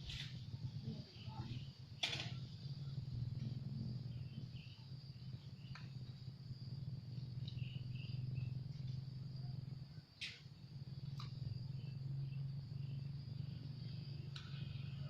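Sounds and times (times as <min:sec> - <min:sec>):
faint chirps: 0:00.0 - 0:15.0
insects trilling: 0:00.0 - 0:15.0
low hum: 0:00.0 - 0:15.0.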